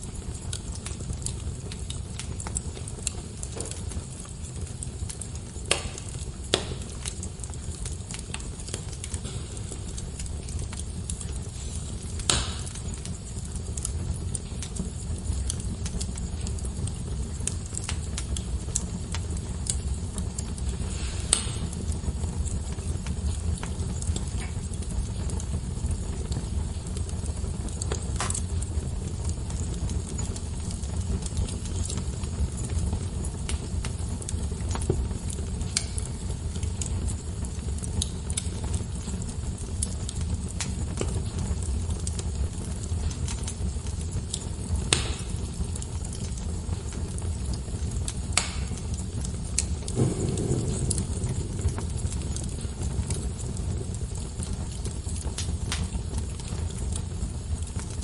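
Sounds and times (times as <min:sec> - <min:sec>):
loud fire pops: 0:00.0 - 0:58.0
wood fire crackling: 0:00.0 - 0:58.0.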